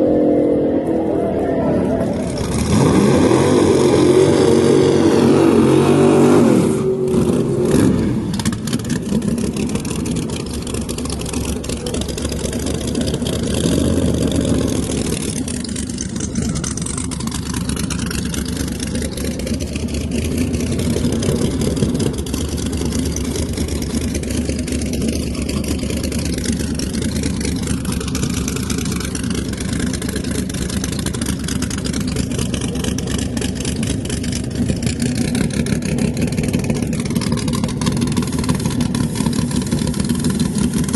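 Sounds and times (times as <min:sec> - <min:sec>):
car engine rumbling: 0:00.0 - 0:40.9.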